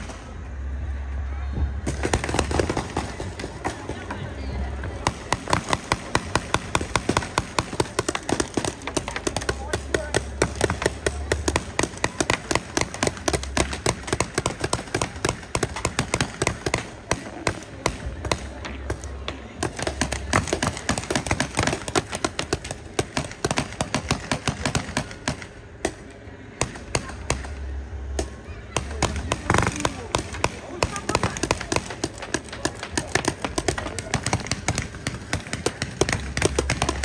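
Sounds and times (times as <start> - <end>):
paintball markers firing: 1.8 - 4.2, 4.8 - 37.0.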